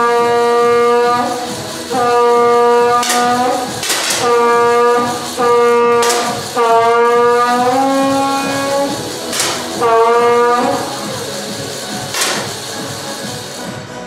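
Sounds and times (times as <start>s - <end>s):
horn-like wind tone: 0.0s - 13.6s
sharp cracks: 0.9s - 13.2s.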